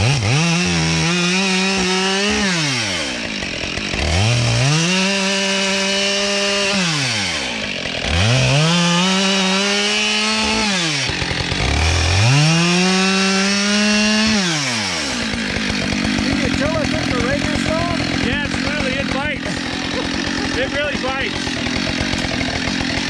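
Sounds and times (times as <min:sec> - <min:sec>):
chainsaw revving and idling: 0:00.0 - 0:23.0.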